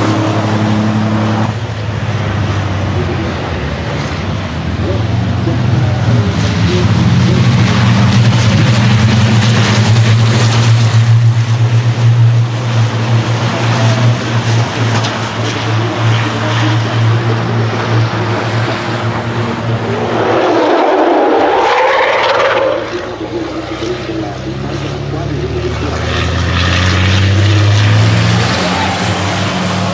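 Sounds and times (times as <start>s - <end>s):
quieter truck passing: 0.0s - 29.9s
race truck engines passing: 0.0s - 29.9s.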